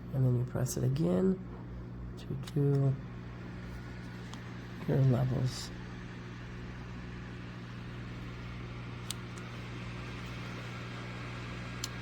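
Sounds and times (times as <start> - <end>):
neck fan rushing air: 0.0 - 12.0.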